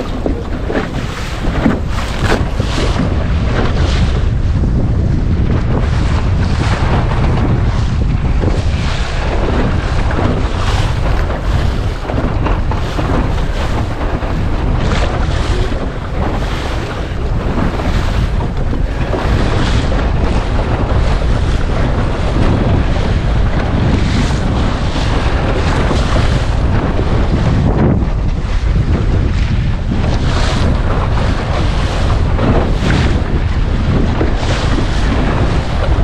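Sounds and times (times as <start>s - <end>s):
water rushing and splashing: 0.0s - 36.0s
wind buffeting microphone: 0.0s - 36.0s.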